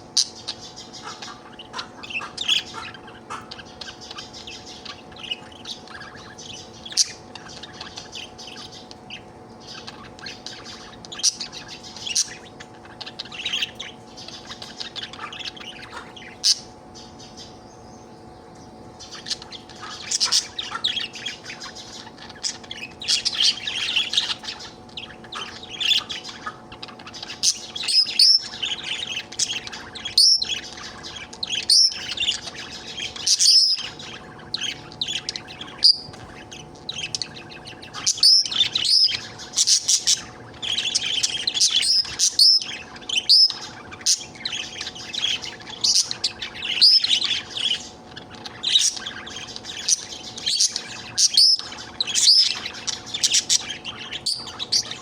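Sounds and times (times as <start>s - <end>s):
budgerigar chattering: 0.2s - 17.6s, 19.0s - 55.0s.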